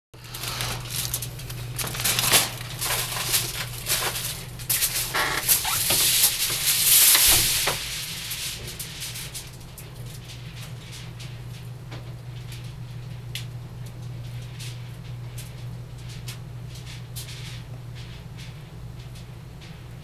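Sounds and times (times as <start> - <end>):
aluminum foil crinkling: 0.2 - 19.3
steady low hum: 0.2 - 20.0.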